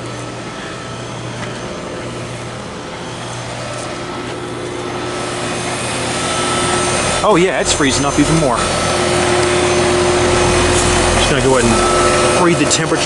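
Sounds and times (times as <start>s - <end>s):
fan rushing: 0.0s - 13.0s
low compressor hum: 0.0s - 13.0s.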